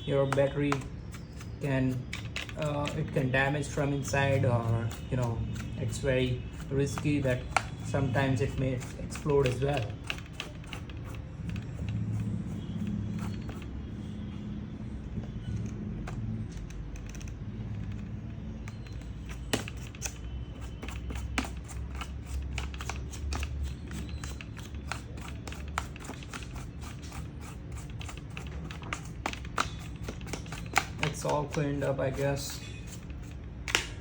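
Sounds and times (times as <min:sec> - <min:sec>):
steady low hum: 0:00.0 - 0:34.0
toothbrush bristles scratching plastic: 0:00.3 - 0:13.8, 0:18.7 - 0:33.4.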